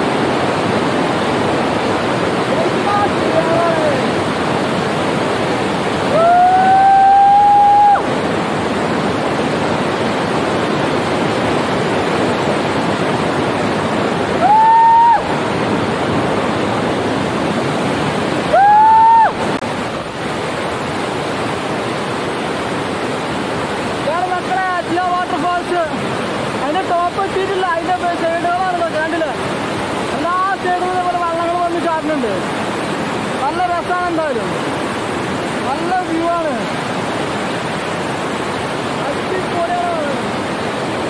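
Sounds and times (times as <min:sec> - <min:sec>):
waterfall and river rushing: 0:00.0 - 0:41.0.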